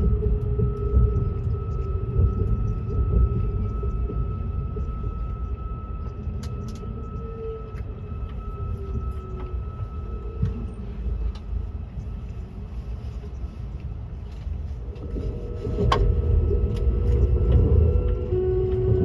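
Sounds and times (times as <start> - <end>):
faint steady whines: 0.0 - 19.0
train carriage rumble: 0.0 - 19.0.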